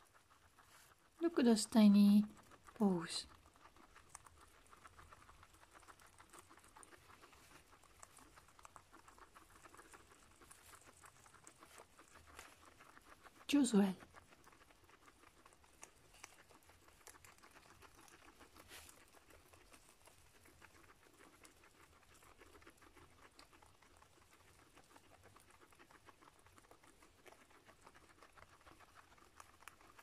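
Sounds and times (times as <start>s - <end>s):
guinea pig chewing grass: 0.0s - 30.0s.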